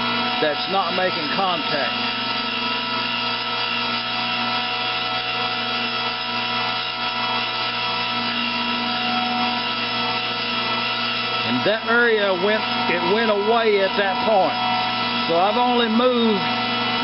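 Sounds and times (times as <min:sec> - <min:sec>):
grinding machine motor hum and whine: 0:00.0 - 0:17.0.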